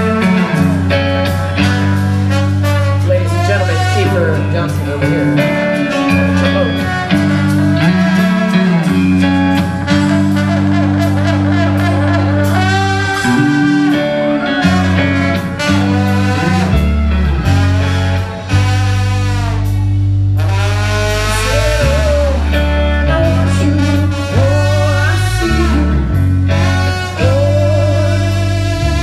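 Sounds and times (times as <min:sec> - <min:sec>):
drums: 0:00.0 - 0:29.0
electric bass notes: 0:00.0 - 0:29.0
electric guitar lead with bends: 0:00.0 - 0:29.0.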